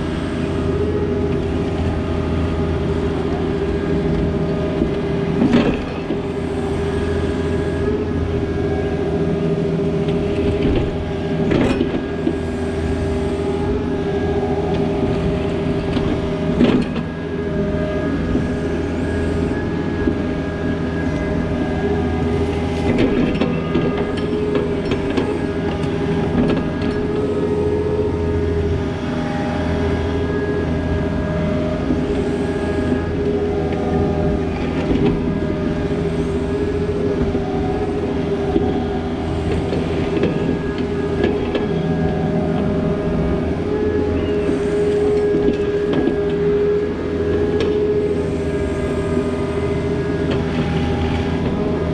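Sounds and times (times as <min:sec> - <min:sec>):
diesel engine under load: 0:00.0 - 0:51.9
hydraulic whine: 0:00.0 - 0:51.9.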